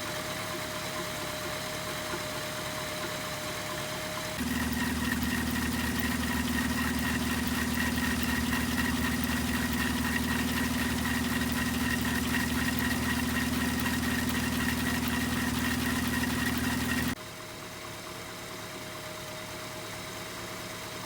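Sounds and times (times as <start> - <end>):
engine idling: 0.1 - 19.1.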